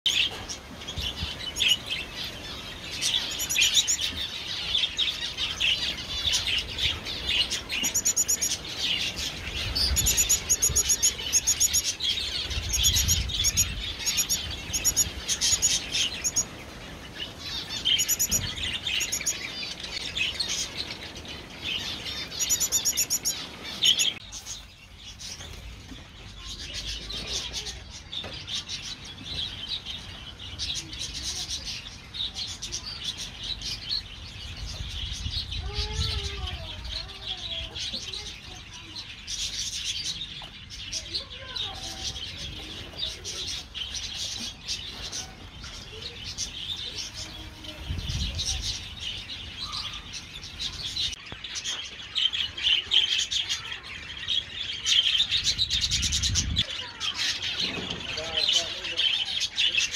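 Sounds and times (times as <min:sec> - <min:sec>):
small birds chirping and calling: 0:00.0 - 0:59.9.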